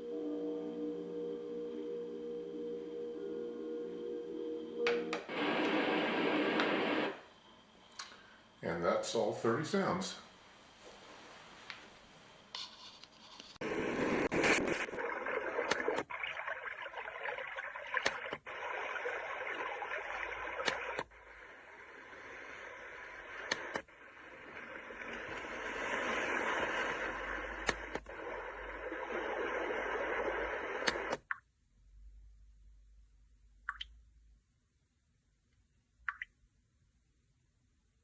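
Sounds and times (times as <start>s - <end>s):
white noise machine sleep sounds: 0.0s - 31.3s.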